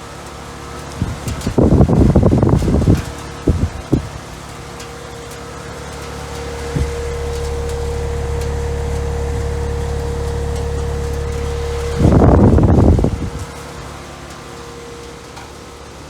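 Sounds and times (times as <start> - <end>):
heat pump low hum: 0.0 - 16.0.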